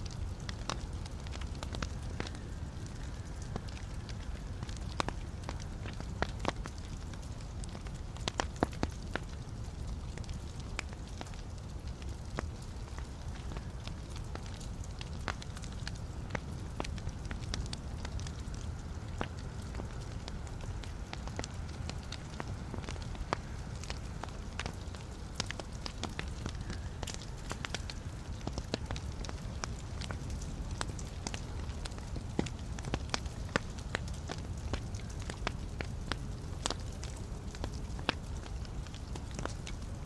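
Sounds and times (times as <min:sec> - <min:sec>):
log fire crackling and popping: 0:00.0 - 0:40.0
low rumble of flames: 0:00.0 - 0:40.0.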